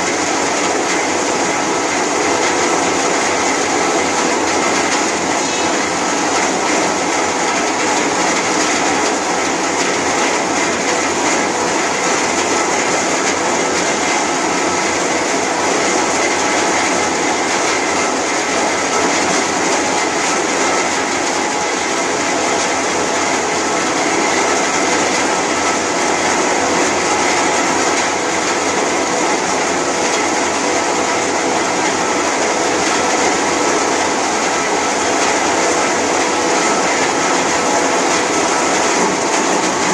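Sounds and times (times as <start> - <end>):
rubber crusher clattering and humming: 0.0 - 39.9.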